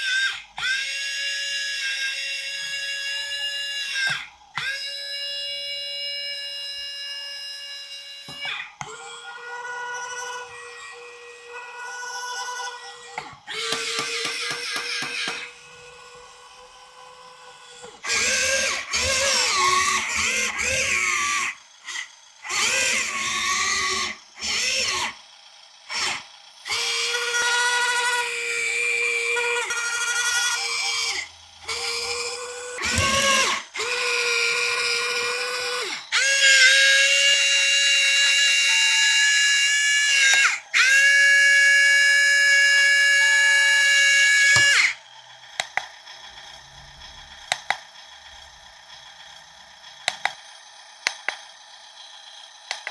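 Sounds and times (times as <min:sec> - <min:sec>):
small electric motors whining: 0:00.0 - 0:52.9.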